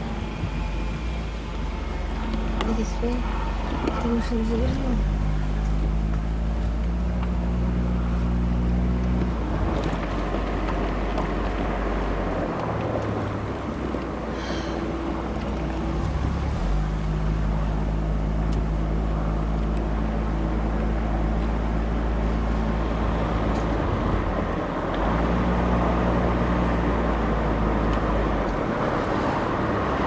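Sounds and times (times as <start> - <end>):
car engine droning: 0.0 - 30.0
road noise: 0.0 - 30.0.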